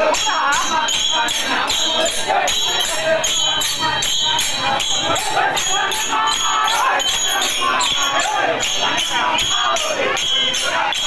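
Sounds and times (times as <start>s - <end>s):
crowd: 0.0s - 11.0s
metallic jingling beat: 0.0s - 11.0s
voices singing: 0.0s - 11.0s.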